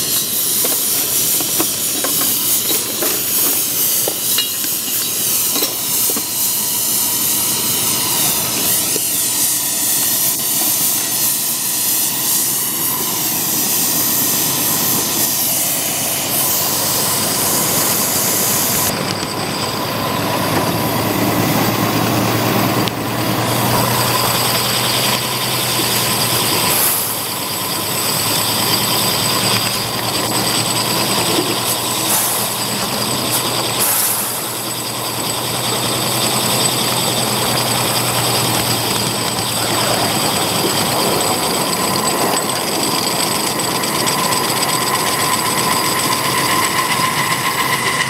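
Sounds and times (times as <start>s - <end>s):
locomotive mechanical running noise: 0.0s - 48.0s
steam hissing: 0.0s - 48.0s.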